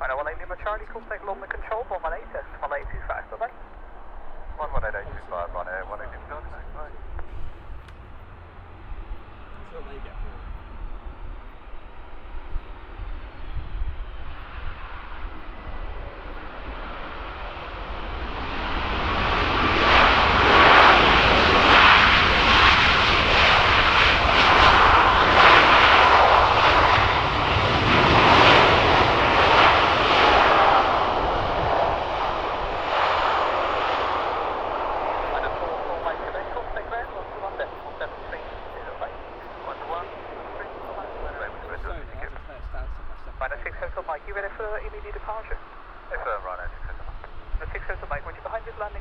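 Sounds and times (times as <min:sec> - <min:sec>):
jet engines of landing plane: 0:00.0 - 0:49.0.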